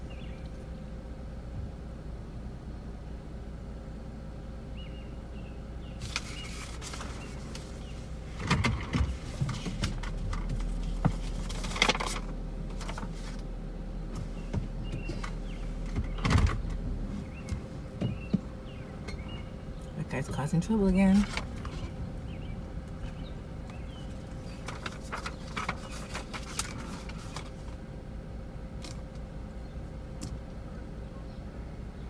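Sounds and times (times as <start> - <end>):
low engine hum: 0.0 - 32.0.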